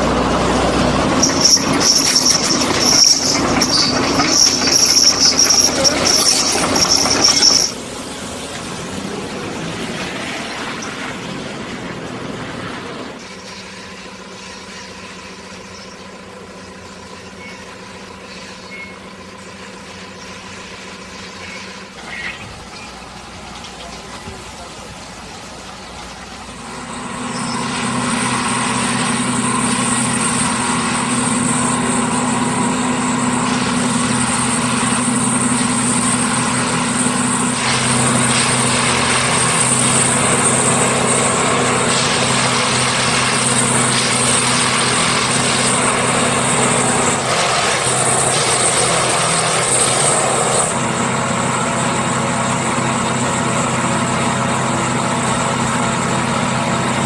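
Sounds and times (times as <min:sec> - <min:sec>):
diesel engine running steadily: 0:00.0 - 0:57.0
high whine: 0:00.0 - 0:57.0.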